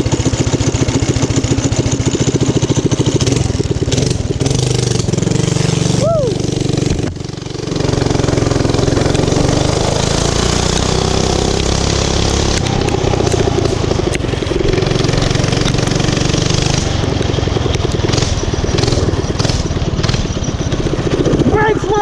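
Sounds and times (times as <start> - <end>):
small gas engine running: 0.0 - 22.0.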